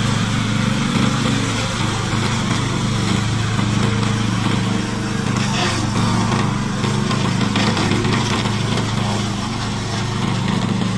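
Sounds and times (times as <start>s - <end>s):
mower petrol engine running: 0.0s - 10.9s.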